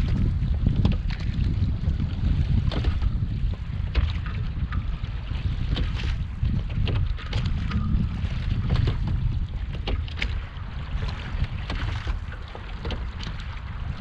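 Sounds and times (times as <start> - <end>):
water splashing against boat hull: 0.0 - 14.0
wind buffeting microphone: 0.0 - 14.0.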